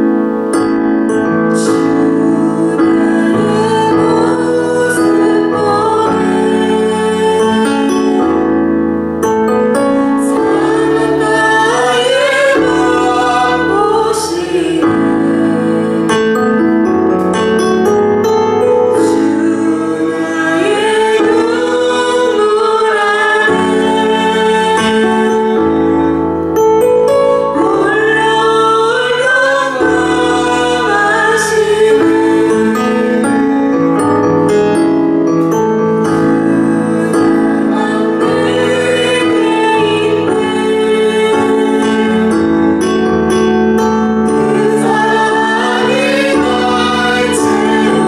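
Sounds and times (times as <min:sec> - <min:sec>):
keyboard accompaniment: 0:00.0 - 0:48.0
group singing worship song: 0:01.4 - 0:17.8, 0:18.4 - 0:26.4, 0:27.3 - 0:33.7, 0:36.1 - 0:48.0.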